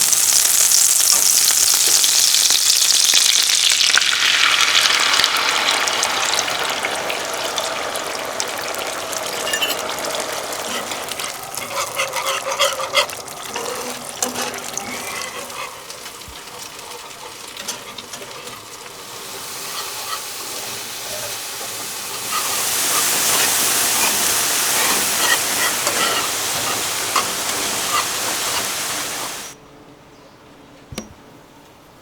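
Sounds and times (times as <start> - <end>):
food sizzling in a frying pan: 0.0 - 29.6.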